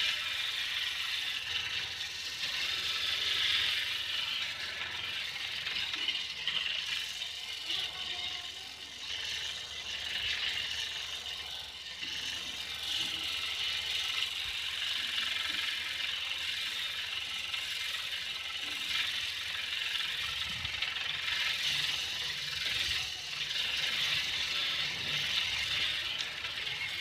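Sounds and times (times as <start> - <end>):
angle grinder scraping steel: 0.0 - 27.0.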